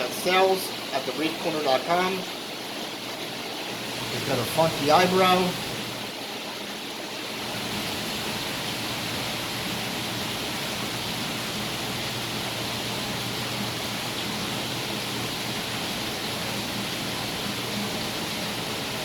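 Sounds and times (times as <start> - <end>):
rushing aquarium water: 0.0 - 19.0.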